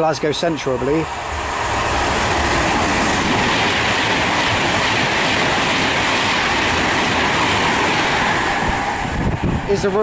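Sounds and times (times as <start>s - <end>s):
train passing at speed: 0.0s - 10.0s.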